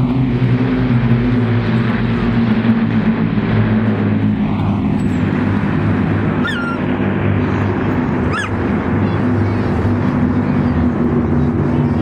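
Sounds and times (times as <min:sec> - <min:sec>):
piston aircraft engines droning: 0:00.0 - 0:12.0.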